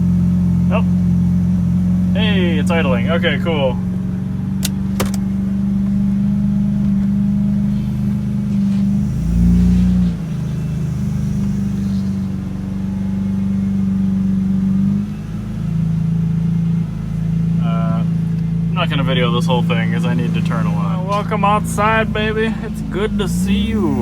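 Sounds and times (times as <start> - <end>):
sports car engine idling: 0.0 - 24.0.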